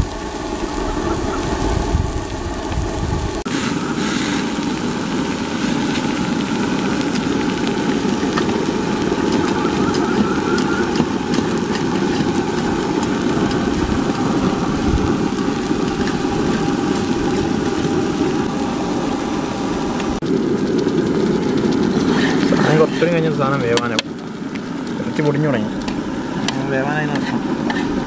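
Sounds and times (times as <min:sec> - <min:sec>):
faint crackles: 0:00.0 - 0:28.0
fish frying in oil: 0:00.0 - 0:28.0.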